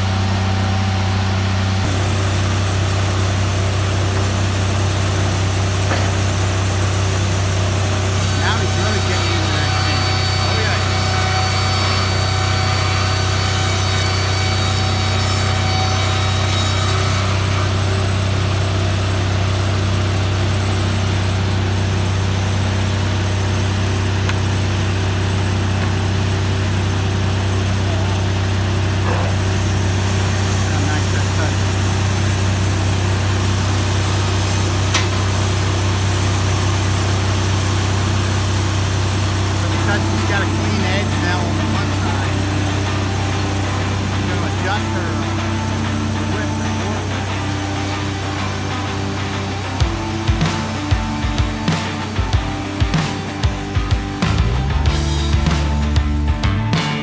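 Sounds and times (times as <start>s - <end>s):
sawmill engine humming: 0.0s - 57.0s.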